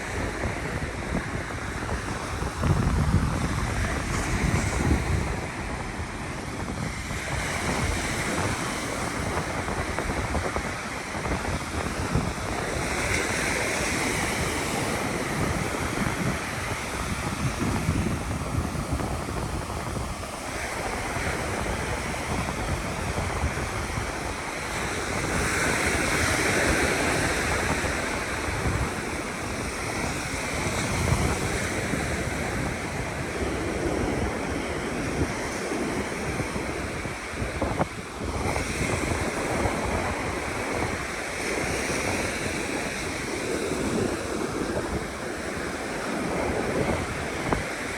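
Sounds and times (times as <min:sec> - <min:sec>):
ocean surf breaking: 0:00.0 - 0:47.9
wind buffeting microphone: 0:00.0 - 0:47.9.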